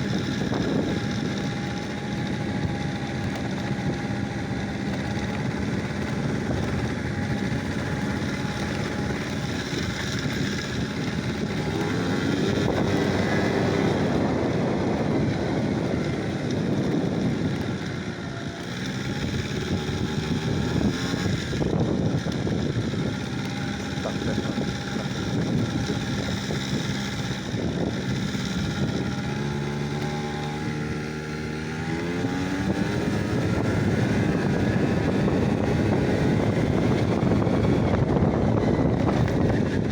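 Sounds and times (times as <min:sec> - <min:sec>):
engine changing speed: 0:00.0 - 0:39.9
wind noise on microphone: 0:00.0 - 0:39.9.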